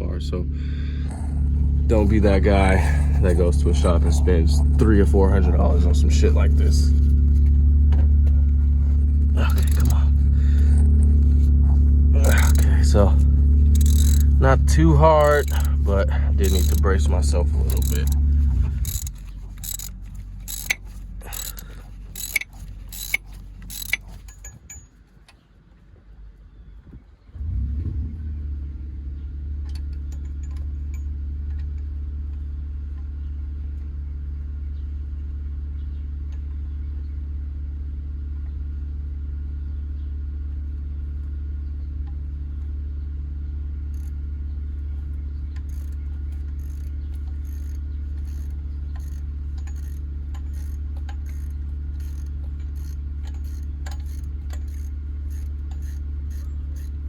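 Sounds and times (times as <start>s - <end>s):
low mechanical drone: 0.0s - 57.0s.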